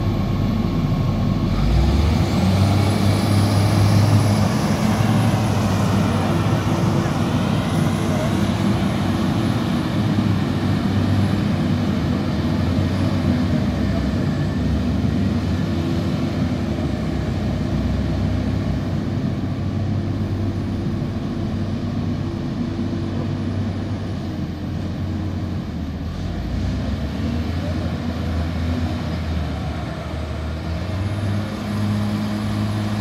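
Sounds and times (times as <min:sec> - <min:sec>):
diesel engines droning: 0:00.0 - 0:33.0.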